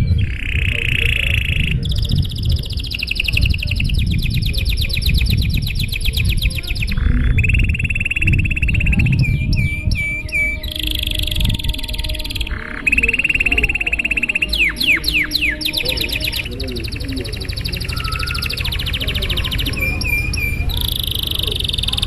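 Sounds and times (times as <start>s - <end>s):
canary singing trills: 0.0s - 22.0s
low rumble: 0.0s - 22.0s.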